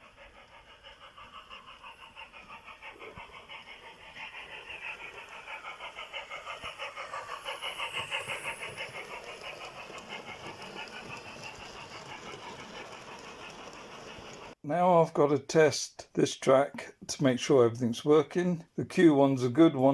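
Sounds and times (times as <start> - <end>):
model steam locomotive chuffing: 0.0 - 19.9.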